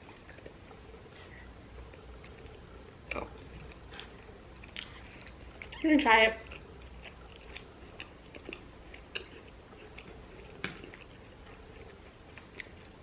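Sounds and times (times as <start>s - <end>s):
mouth clicks chewing cookie: 1.8s - 13.0s.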